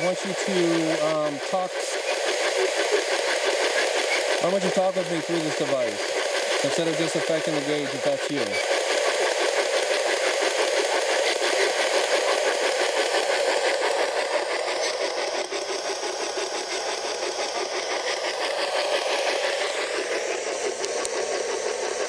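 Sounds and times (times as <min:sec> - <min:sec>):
chopped radio static: 0:00.0 - 0:22.0.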